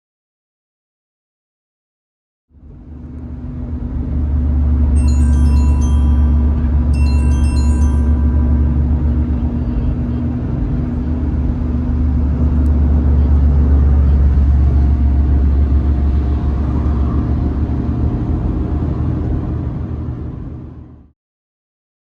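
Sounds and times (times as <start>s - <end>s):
car road and engine rumble: 2.5s - 21.1s.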